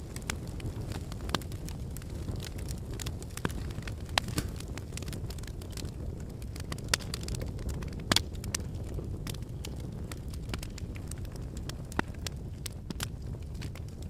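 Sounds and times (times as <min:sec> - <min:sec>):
logs crackling and popping: 0:00.0 - 0:14.0
low rumble of flame: 0:00.0 - 0:14.0.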